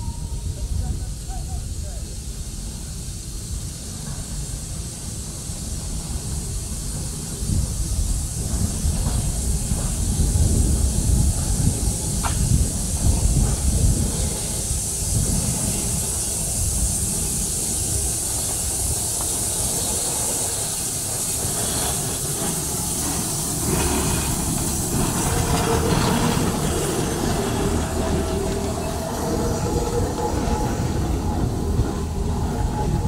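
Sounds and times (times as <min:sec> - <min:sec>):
locomotive running gear rumble: 0:00.0 - 0:33.0
steam hissing: 0:00.0 - 0:33.0.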